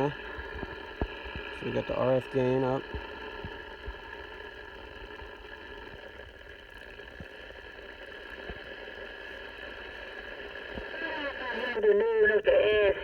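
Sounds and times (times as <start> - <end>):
radio static hiss: 0.0 - 6.6, 8.0 - 13.0
faint crackles: 0.0 - 13.0.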